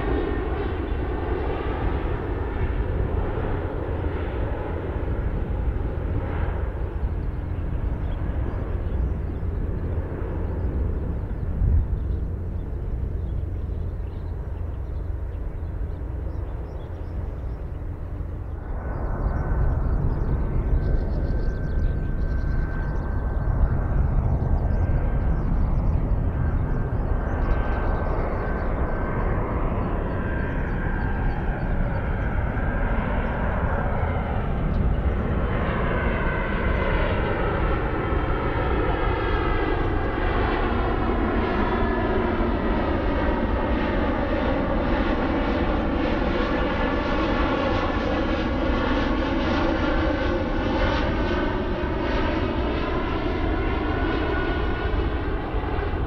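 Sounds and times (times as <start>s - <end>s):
jet engine rumble: 0.0s - 56.0s.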